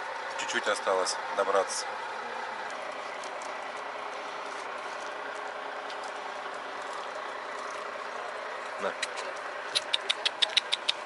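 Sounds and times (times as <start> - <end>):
idling vehicle engines and traffic: 0.0 - 11.0.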